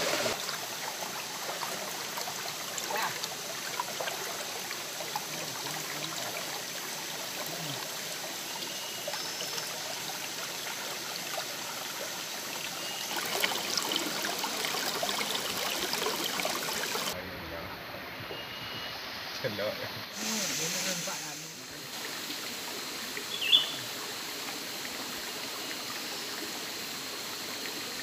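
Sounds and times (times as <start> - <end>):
stream trickling: 0.0 - 28.0.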